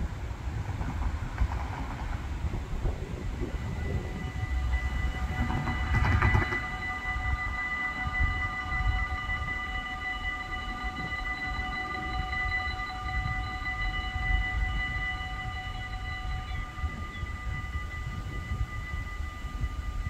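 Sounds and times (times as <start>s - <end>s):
steady high whine: 0.0s - 20.0s
train rumbling on rails: 0.0s - 20.0s.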